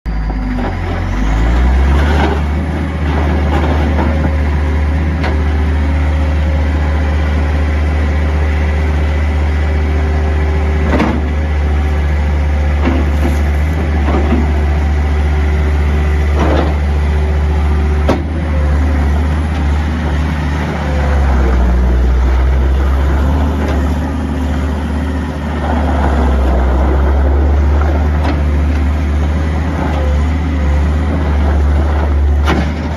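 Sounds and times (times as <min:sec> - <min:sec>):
diesel engine droning: 0:00.1 - 0:32.9.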